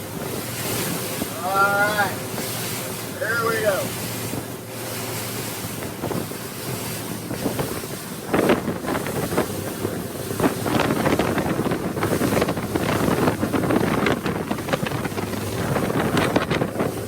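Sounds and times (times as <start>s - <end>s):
outboard motors running: 0.0s - 17.0s
water rushing along hull: 0.0s - 17.0s
water splashing: 0.0s - 17.0s
wind buffeting microphone: 0.0s - 17.0s.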